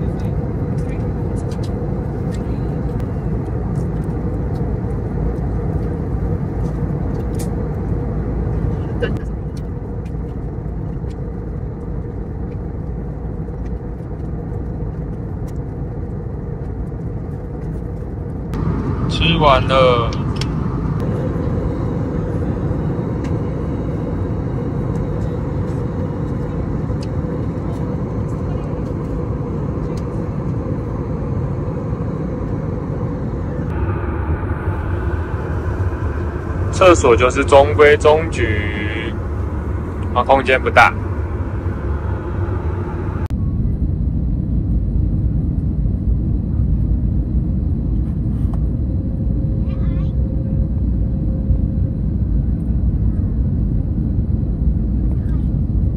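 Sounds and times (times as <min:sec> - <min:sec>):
airliner cabin engine rumble: 0:00.0 - 0:55.9.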